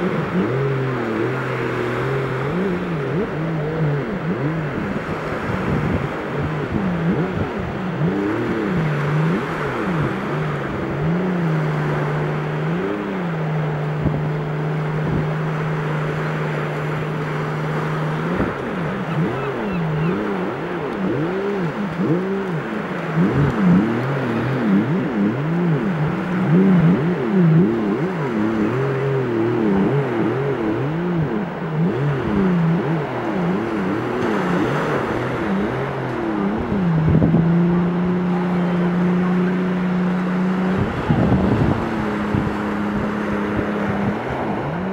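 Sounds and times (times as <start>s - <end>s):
jet ski engine running: 0.0s - 44.9s
surf: 0.0s - 44.9s
wind: 0.0s - 44.9s.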